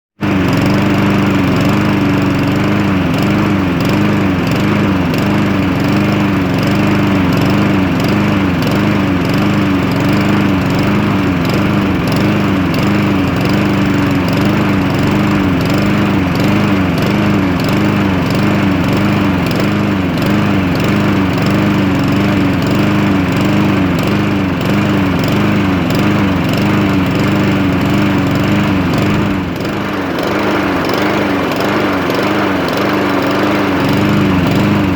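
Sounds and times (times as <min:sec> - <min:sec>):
lawn mower engine rough idle: 0:00.2 - 0:34.9.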